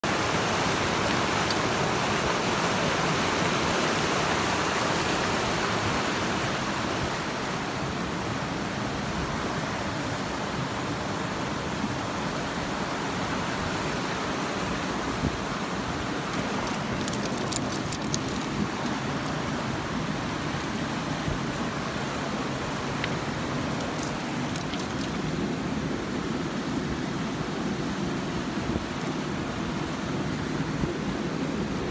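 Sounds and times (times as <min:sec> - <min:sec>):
river rushing over rocks: 0:00.0 - 0:31.9.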